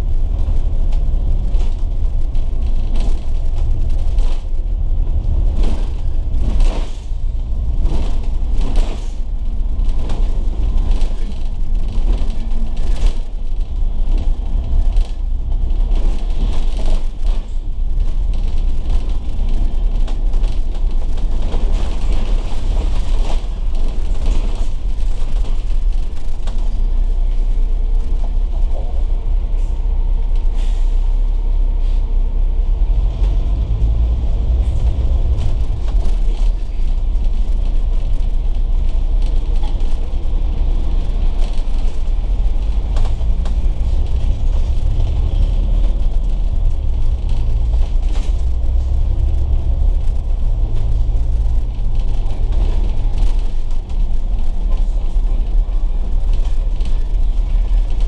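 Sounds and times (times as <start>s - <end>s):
bus body rattling: 0.0s - 58.0s
bus engine rumble: 0.0s - 58.0s.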